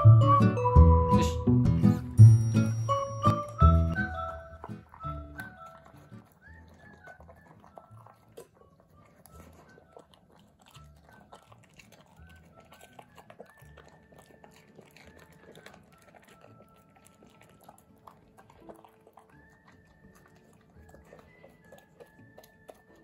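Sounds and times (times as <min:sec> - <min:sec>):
puppy chewing soft fruit: 0:02.2 - 0:23.0
mouth clicks and smacks: 0:02.9 - 0:23.0.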